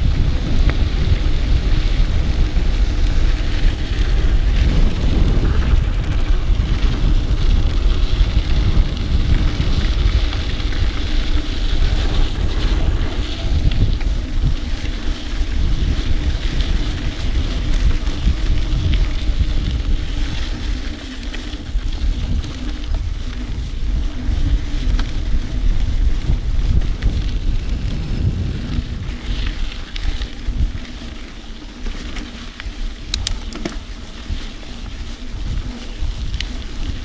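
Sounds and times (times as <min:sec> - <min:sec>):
tyres rumbling on dirt: 0:00.0 - 0:32.4
bike clicks and rattles: 0:00.0 - 0:37.0
wind buffeting microphone: 0:00.0 - 0:37.0.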